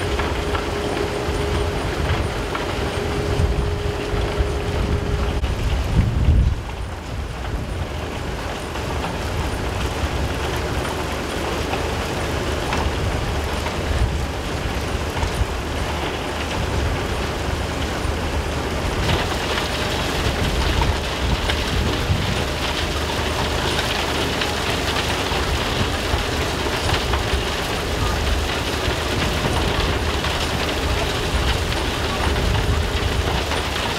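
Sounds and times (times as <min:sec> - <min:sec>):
low machinery rumble: 0:00.0 - 0:33.9.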